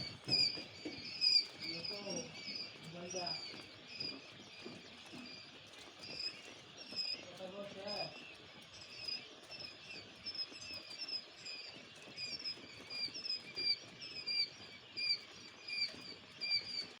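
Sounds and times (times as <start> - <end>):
quail chicks peeping: 0.0 - 17.0
soft pattering: 0.0 - 17.0.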